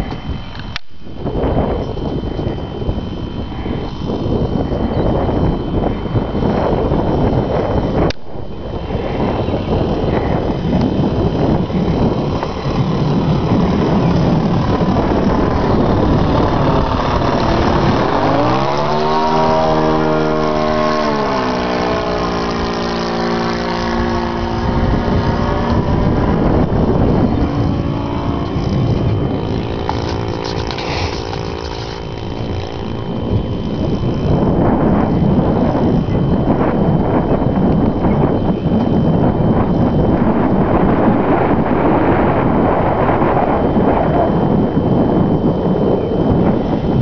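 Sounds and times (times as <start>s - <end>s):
model plane engine passing: 0.0s - 47.0s
wind rumbling on microphone: 0.0s - 47.0s.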